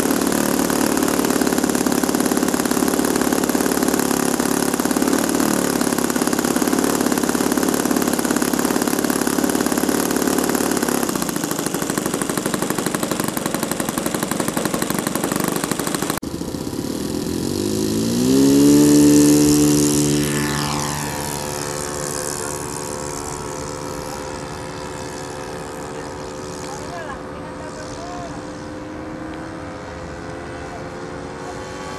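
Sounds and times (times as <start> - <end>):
model plane engine running: 0.0 - 31.9
model plane passing overhead: 0.0 - 31.9.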